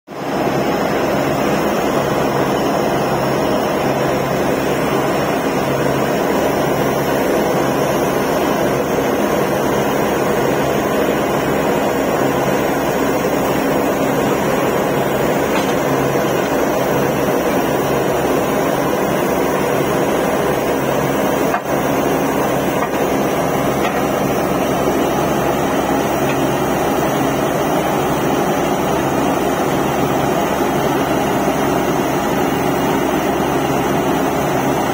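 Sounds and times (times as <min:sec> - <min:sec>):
drilling rig engine and compressor drone: 0:00.1 - 0:34.9.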